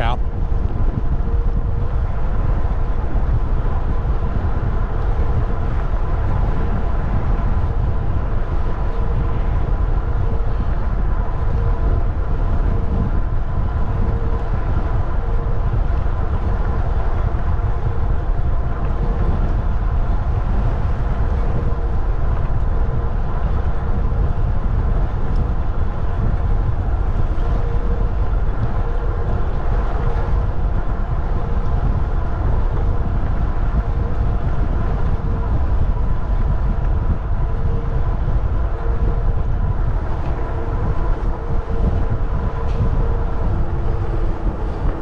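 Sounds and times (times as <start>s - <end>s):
faint steady hum: 0.0s - 45.0s
wind rush on microphone: 0.0s - 45.0s.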